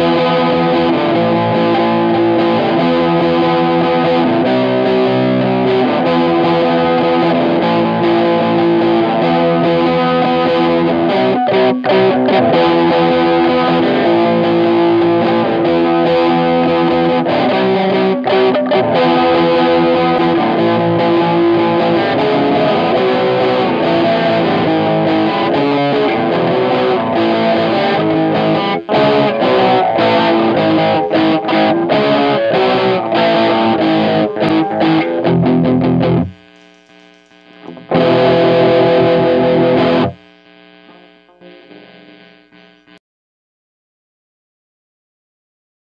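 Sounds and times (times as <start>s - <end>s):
distorted electric guitar strumming: 0.0s - 43.0s.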